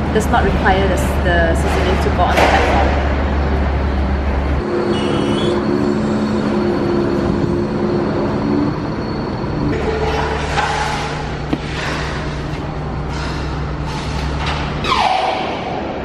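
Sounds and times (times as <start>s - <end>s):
heavy machinery humming: 0.0s - 16.0s.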